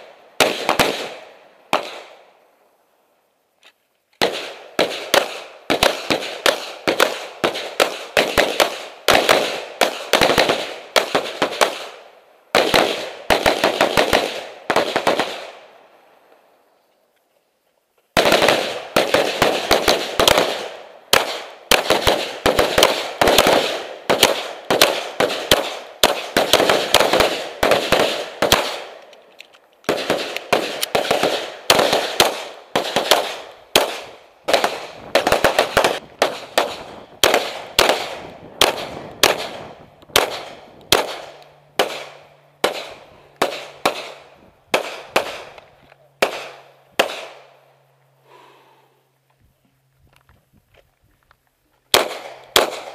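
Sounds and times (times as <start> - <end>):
gunfire: 0.0 - 2.3, 4.2 - 15.7, 18.2 - 29.1, 29.8 - 45.6, 46.2 - 47.6, 51.9 - 52.9.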